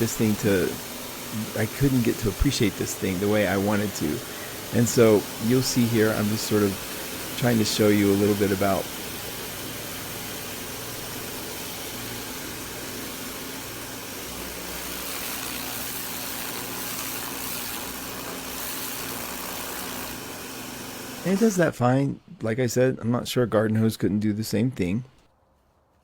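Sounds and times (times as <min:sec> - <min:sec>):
pressure washer motor hum: 0:00.0 - 0:21.7
water spray hissing: 0:00.0 - 0:21.7.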